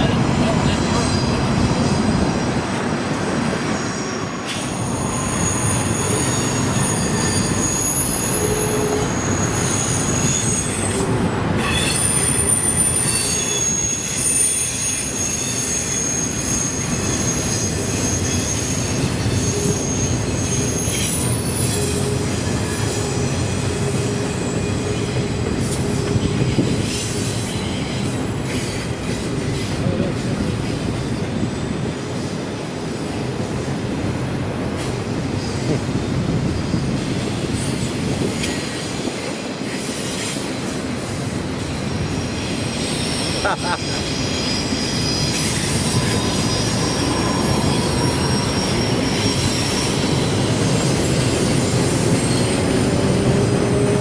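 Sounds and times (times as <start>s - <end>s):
rumble of wheels on rail: 0.0s - 54.0s
train wheels squealing: 3.4s - 54.0s.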